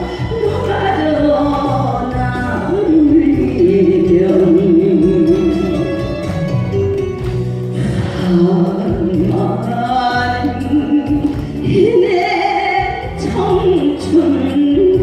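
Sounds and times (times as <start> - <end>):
backing track music: 0.0 - 15.0
vocal melody with vibrato: 0.0 - 15.0.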